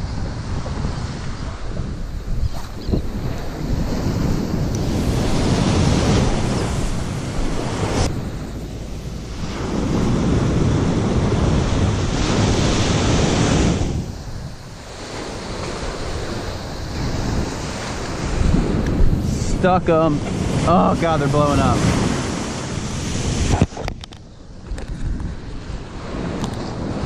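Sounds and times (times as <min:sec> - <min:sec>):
ocean surf breaking on beach: 0:00.0 - 0:27.0
wind buffeting microphone: 0:00.0 - 0:27.0.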